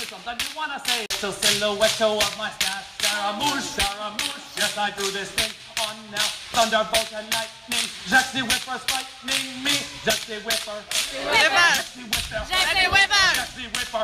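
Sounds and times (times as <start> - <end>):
background music with steady beat: 0.0 - 14.0
person singing or rapping: 0.0 - 14.0.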